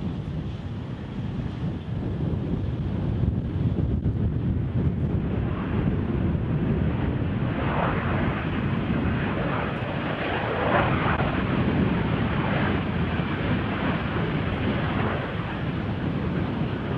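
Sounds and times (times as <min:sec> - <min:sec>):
jet airliner engines: 0:00.0 - 0:16.9
wind buffeting microphone: 0:00.0 - 0:16.9.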